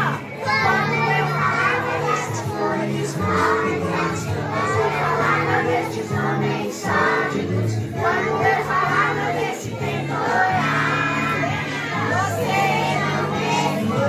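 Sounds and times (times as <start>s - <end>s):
children and adults singing: 0.0s - 14.0s.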